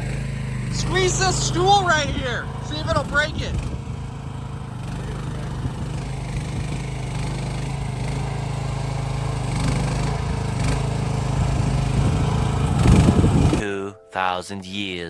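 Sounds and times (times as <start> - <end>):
small excavator engine running: 0.0 - 13.6.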